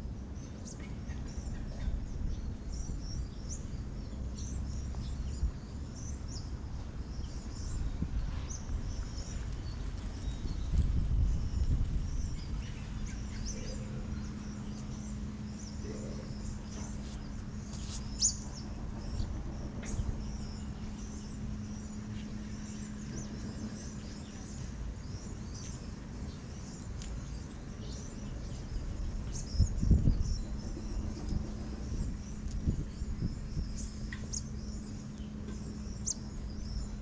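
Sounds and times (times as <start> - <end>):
small birds chirping: 0.0 - 37.0
steady low hum: 0.0 - 37.0.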